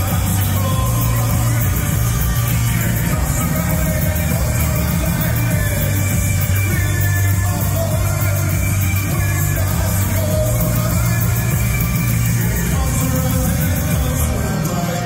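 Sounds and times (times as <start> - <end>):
heavy bass: 0.0 - 15.0
live band playing: 0.0 - 15.0.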